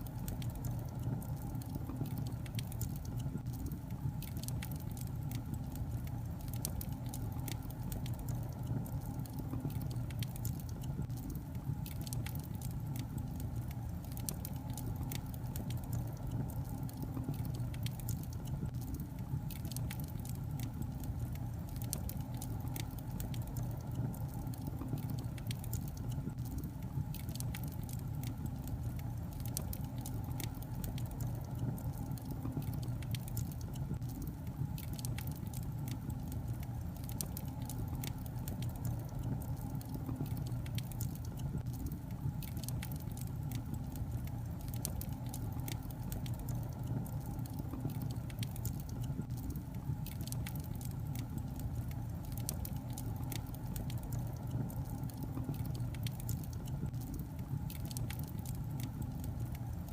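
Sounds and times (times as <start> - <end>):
log fire crackling: 0.0 - 59.9
low fire rumble: 0.0 - 59.9.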